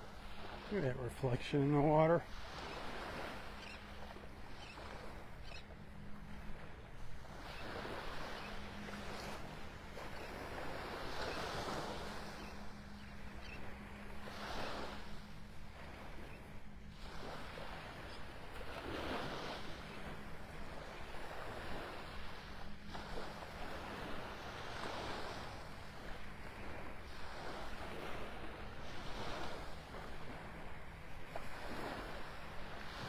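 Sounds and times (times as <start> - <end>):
gentle waves washing onto sand: 0.0 - 33.0.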